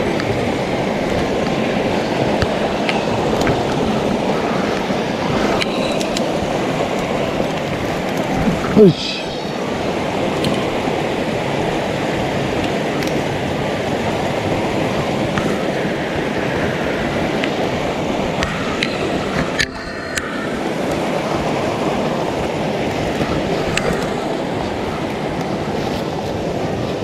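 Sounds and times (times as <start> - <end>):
mountain stream rushing: 0.0 - 27.0.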